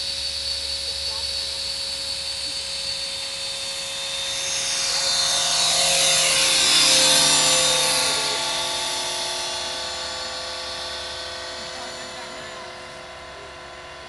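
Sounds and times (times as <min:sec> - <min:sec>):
model airplane engine: 0:00.0 - 0:14.0.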